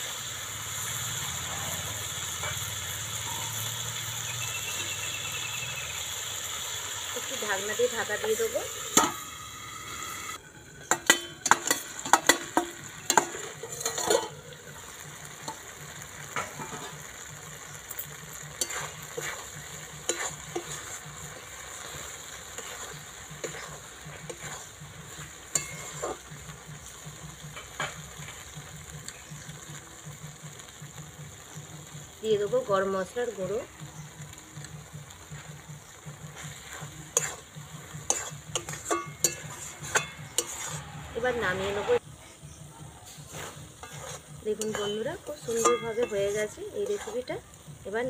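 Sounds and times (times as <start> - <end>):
curry sizzling: 0.0 - 48.0
metal spatula stirring and clanking: 0.2 - 6.3, 7.1 - 9.4, 10.6 - 32.0, 32.8 - 42.0, 43.0 - 47.9.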